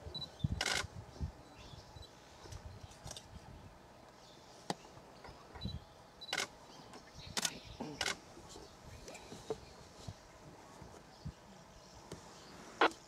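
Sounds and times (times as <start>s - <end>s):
quiet outdoor background: 0.0s - 13.0s.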